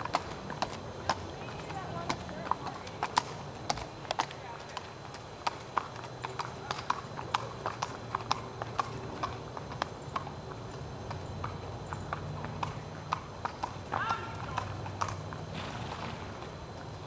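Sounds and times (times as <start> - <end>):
hooves clip-clopping on pavement: 0.0 - 17.0.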